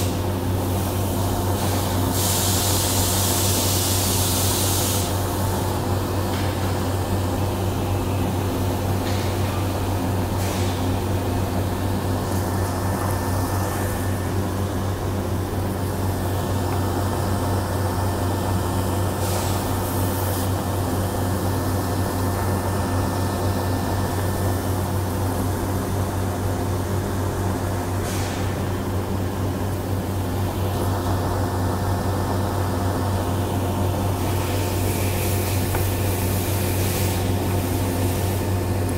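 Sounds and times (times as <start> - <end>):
factory machinery hum: 0.0 - 38.9.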